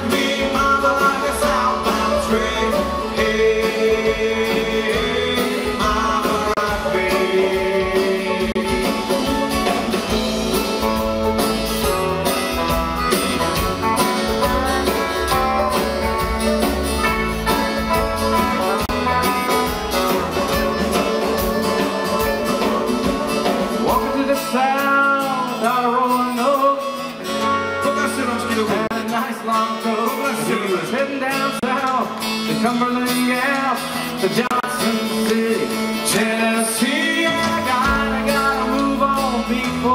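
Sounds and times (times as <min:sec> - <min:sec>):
bluegrass country music: 0:00.0 - 0:39.9
picked acoustic guitar: 0:00.0 - 0:39.9.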